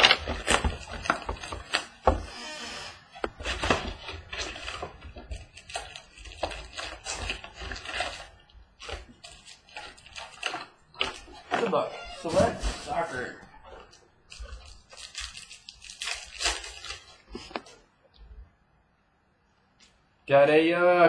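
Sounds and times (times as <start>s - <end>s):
foil packs rustling and crinkling: 0.0s - 17.8s.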